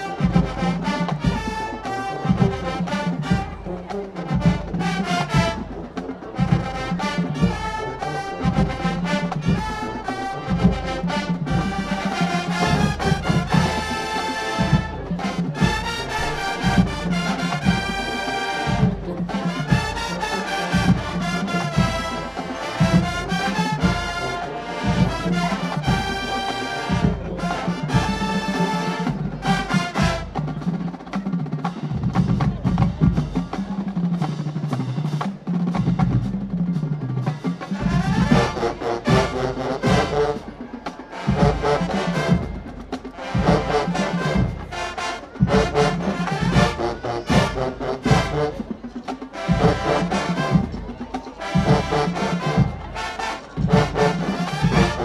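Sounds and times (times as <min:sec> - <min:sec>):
drum line: 0:00.0 - 0:55.0
marching band playing: 0:00.0 - 0:55.0.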